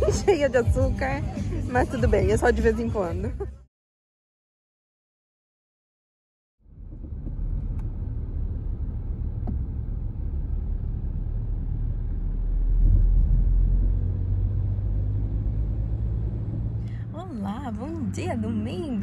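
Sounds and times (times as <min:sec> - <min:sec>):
car interior road and engine rumble: 0:00.0 - 0:03.6, 0:06.6 - 0:19.0.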